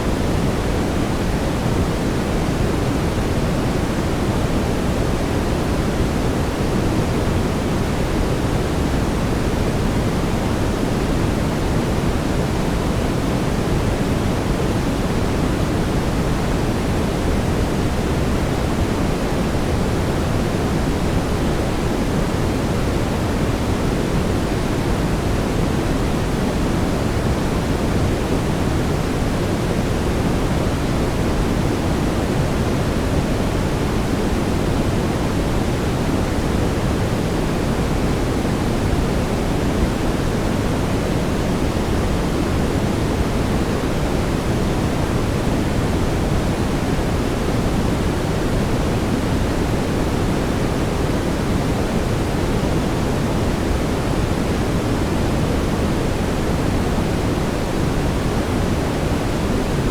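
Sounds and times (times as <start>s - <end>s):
steady brown noise: 0.0s - 59.9s.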